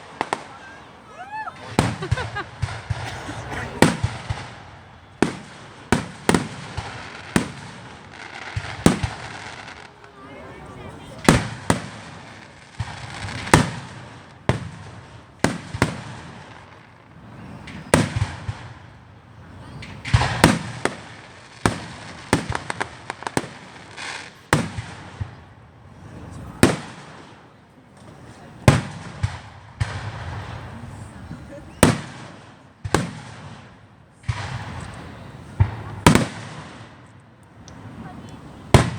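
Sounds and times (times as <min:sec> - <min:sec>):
fireworks bangs: 0:00.0 - 0:38.9
fireworks crackles: 0:00.0 - 0:38.9.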